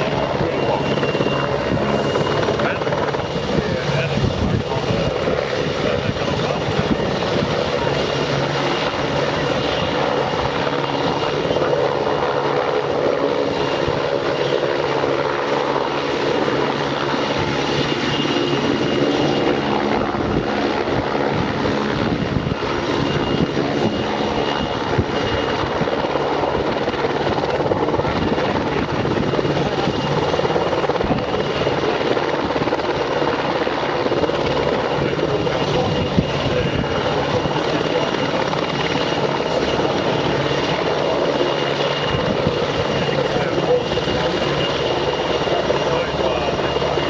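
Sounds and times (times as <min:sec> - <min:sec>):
helicopter rotor and engines: 0:00.0 - 0:47.0
high turbine whine: 0:00.0 - 0:47.0.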